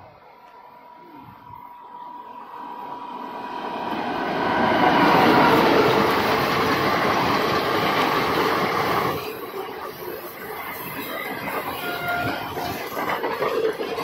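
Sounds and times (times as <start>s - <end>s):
train passing on track: 0.0s - 14.0s.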